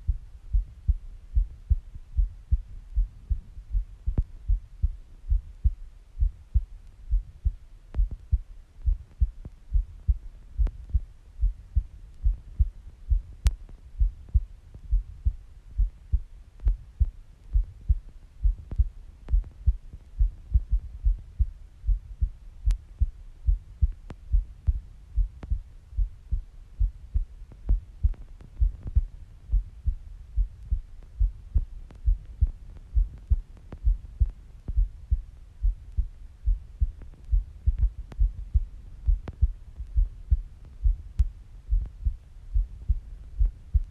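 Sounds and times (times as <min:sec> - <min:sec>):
heartbeat thuds: 0:00.0 - 0:43.9.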